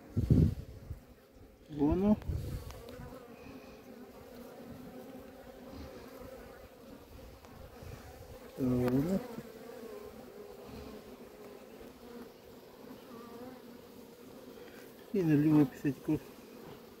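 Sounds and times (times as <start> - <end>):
bees humming: 0.0 - 17.0.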